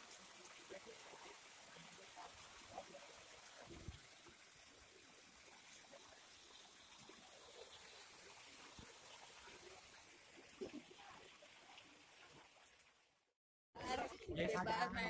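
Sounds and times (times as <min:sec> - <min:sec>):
water trickling into a pool: 0:00.0 - 0:15.0.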